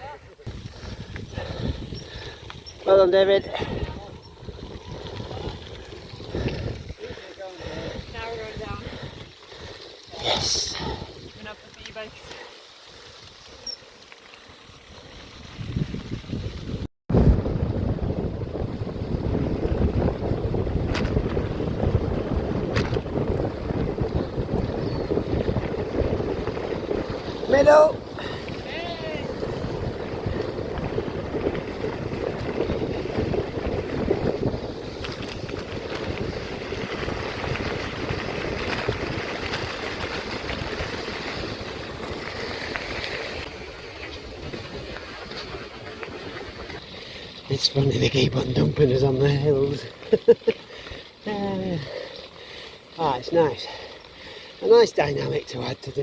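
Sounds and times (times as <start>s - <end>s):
wind buffeting microphone: 0.0s - 12.4s, 14.6s - 54.4s
bicycle rolling rumble: 0.0s - 56.0s.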